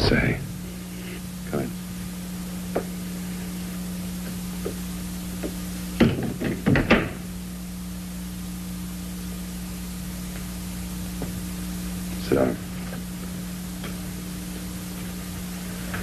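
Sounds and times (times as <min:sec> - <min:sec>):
film soundtrack hum: 0:00.0 - 0:16.0.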